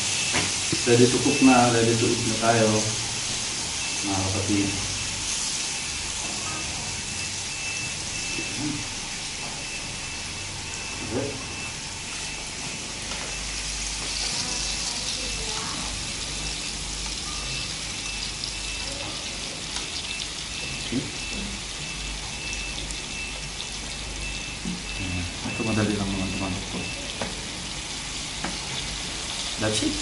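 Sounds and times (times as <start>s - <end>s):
meat sizzling on grill plate: 0.0s - 30.0s.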